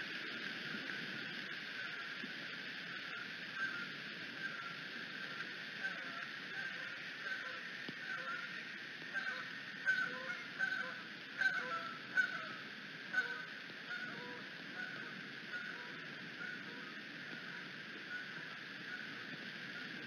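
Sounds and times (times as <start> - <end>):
rain hiss: 0.0 - 20.0.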